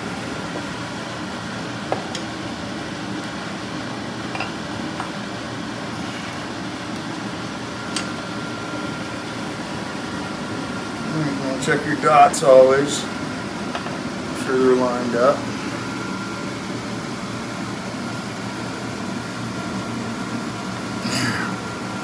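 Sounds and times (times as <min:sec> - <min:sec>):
ventilation fan humming: 0:00.0 - 0:22.0.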